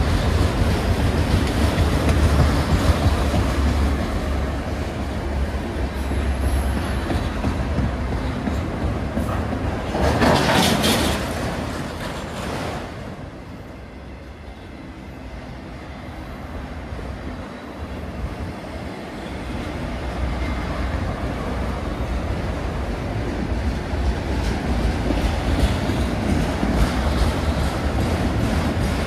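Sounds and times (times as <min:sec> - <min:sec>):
freight train wheels clacking: 0:00.0 - 0:13.4, 0:18.4 - 0:29.0.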